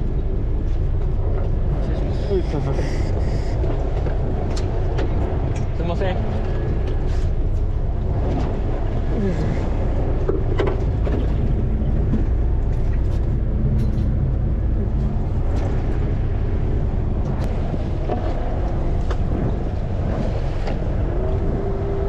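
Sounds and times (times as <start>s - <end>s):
boat engine rumbling: 0.0s - 22.0s
water noise: 0.0s - 22.0s
wind: 0.0s - 22.0s.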